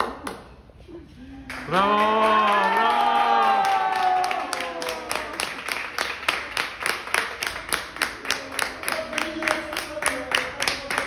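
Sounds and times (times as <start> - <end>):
group clapping in rhythm: 0.0 - 0.6, 1.5 - 11.0.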